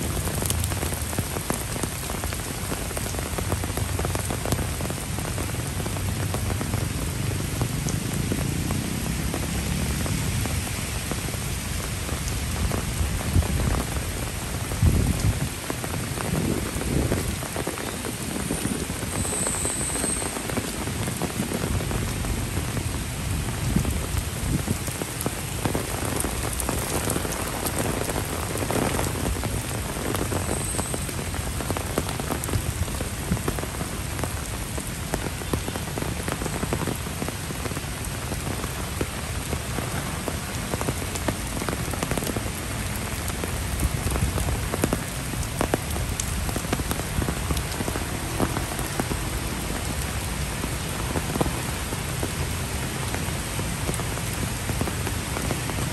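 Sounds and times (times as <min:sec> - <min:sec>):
heavy rain hiss: 0:00.0 - 0:55.9.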